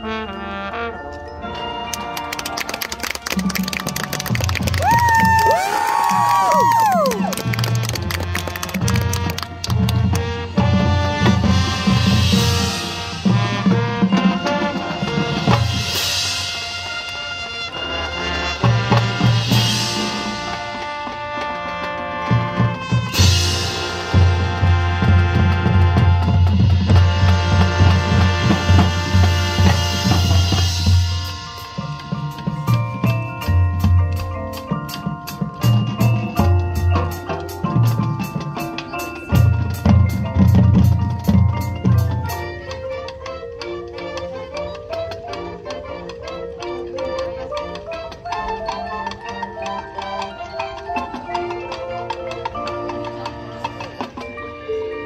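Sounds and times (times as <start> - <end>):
mallet percussion: 0.0 - 55.0
marching band playing: 0.0 - 55.0.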